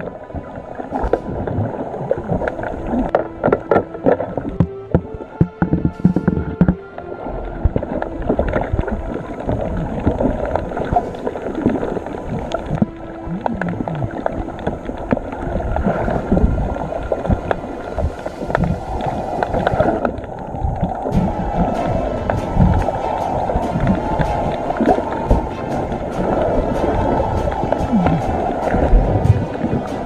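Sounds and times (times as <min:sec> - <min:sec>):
water sloshing around a kayak: 0:00.0 - 0:30.0.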